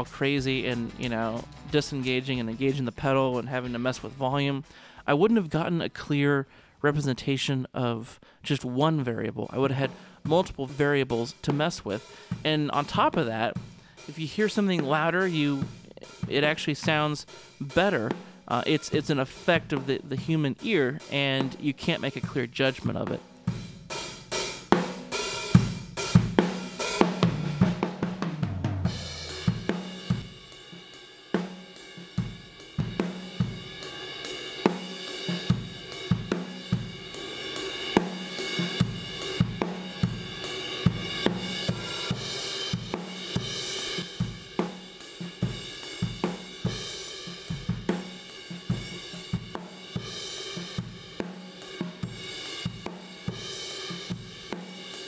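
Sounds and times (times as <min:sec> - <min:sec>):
drum kit beat: 0:00.0 - 0:05.7, 0:09.4 - 0:55.0.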